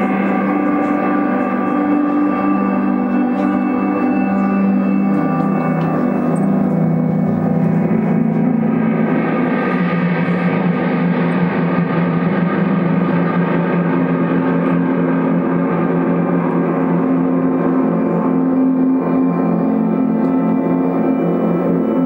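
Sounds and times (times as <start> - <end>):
ambient electric guitar drones: 0.0 - 22.0.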